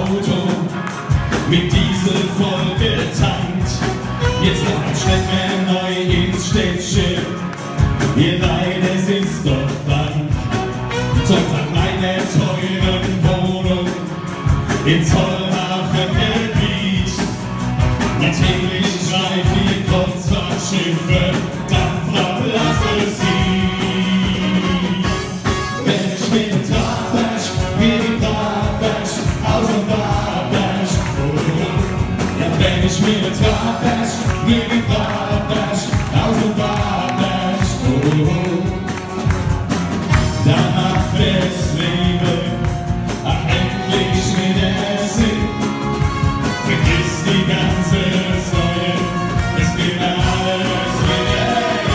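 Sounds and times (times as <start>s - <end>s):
two men singing: 0.0s - 0.8s, 1.4s - 7.4s, 8.0s - 17.4s, 18.1s - 39.0s, 40.1s - 51.9s
music with steady beat: 0.0s - 51.9s.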